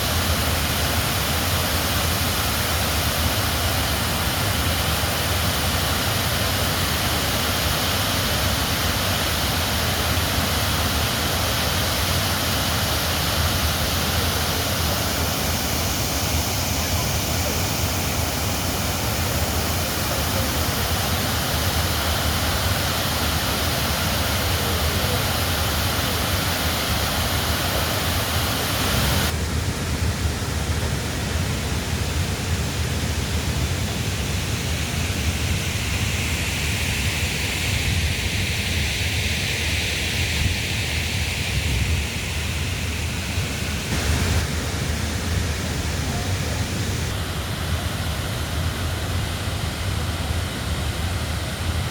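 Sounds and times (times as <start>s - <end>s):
floodwater rushing in river: 0.0s - 51.9s.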